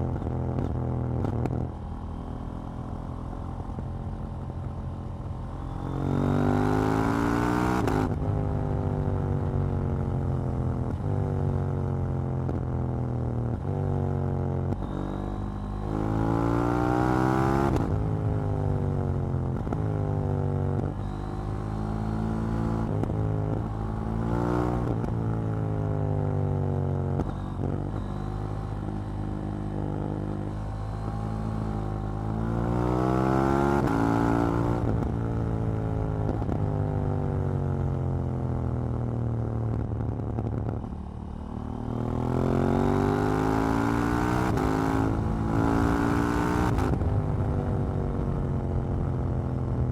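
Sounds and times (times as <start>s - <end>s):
motorcycle engine revving through gears: 5.1s - 49.9s.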